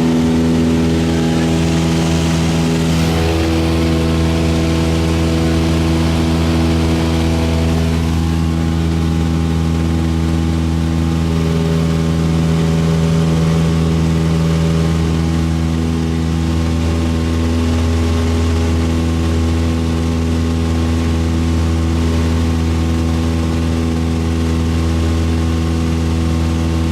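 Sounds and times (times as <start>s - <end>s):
light aircraft engine droning: 0.0s - 26.9s.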